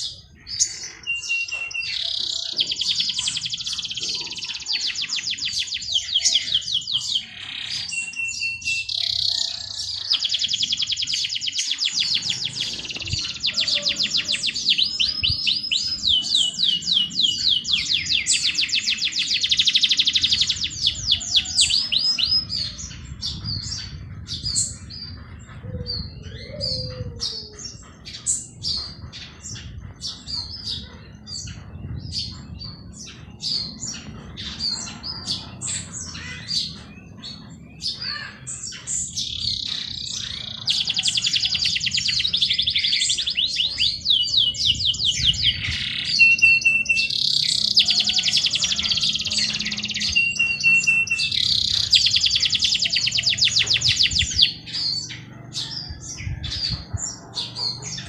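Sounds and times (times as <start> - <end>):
songbirds trilling: 0.0 - 58.0.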